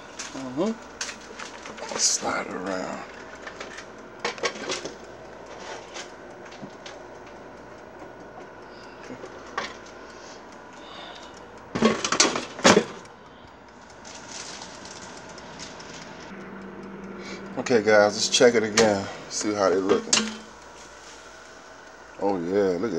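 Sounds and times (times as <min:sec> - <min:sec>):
air fryer basket clattering: 0:00.0 - 0:13.0, 0:14.0 - 0:21.5.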